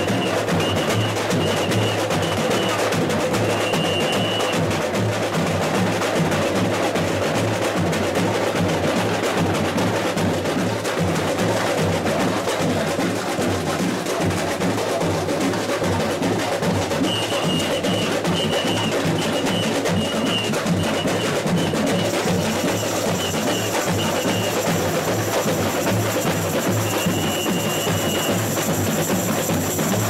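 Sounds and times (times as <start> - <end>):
smaller drums in samba rhythm: 0.0 - 30.0.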